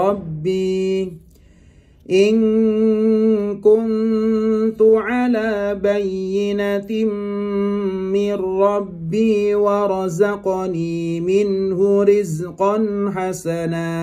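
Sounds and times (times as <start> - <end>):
man chanting melodically: 0.0 - 1.3, 2.0 - 14.0.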